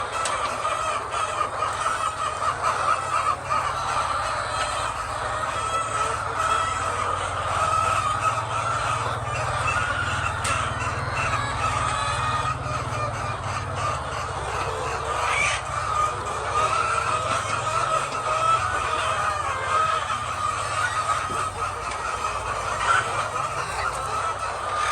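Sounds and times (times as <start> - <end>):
hens clucking: 0.0 - 24.9.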